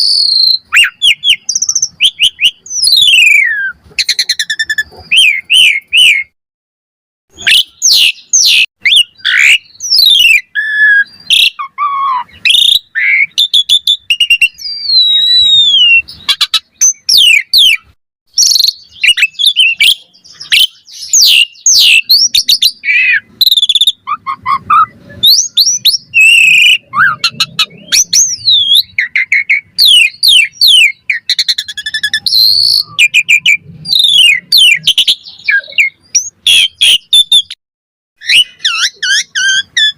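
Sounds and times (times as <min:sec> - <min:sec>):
starling singing: 0:00.0 - 0:06.4, 0:07.3 - 0:37.6, 0:38.2 - 0:39.9.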